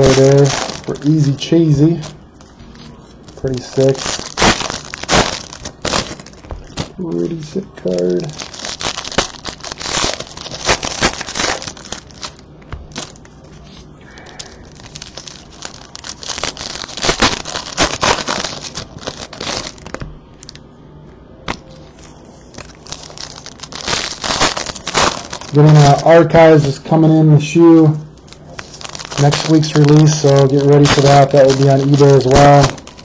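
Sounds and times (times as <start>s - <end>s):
foil wrapper crinkling and tearing: 0.0s - 2.6s, 3.2s - 20.6s, 21.5s - 33.0s.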